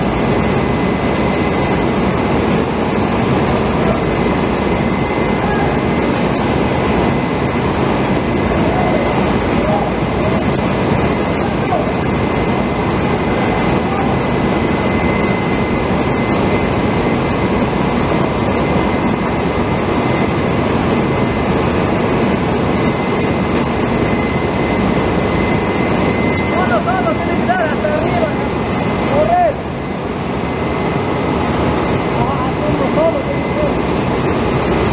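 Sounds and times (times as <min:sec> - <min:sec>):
loud machinery drone: 0:00.0 - 0:34.9
thin constant whine: 0:00.0 - 0:34.9.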